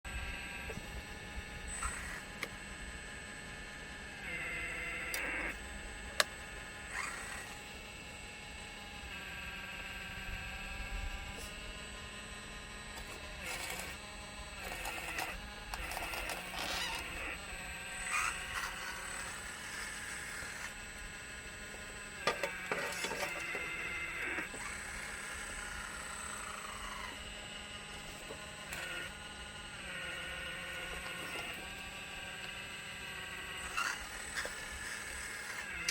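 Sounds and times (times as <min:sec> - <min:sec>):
hydraulic motors whining: 0:00.1 - 0:35.9.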